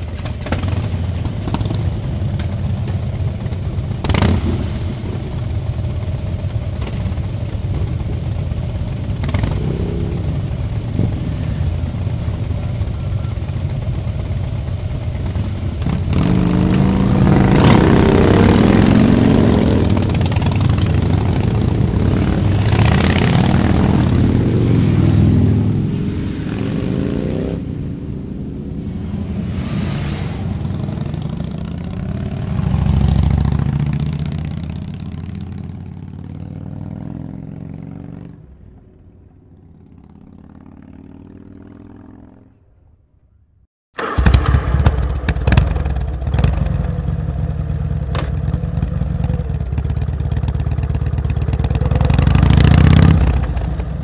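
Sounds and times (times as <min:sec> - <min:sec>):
motorcycle engine revving: 0:00.0 - 0:42.6, 0:44.0 - 0:54.0.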